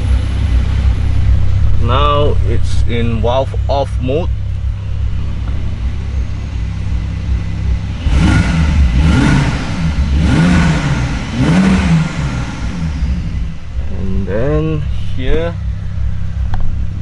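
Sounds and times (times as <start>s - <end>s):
sports car engine idling and revving: 0.0s - 17.0s.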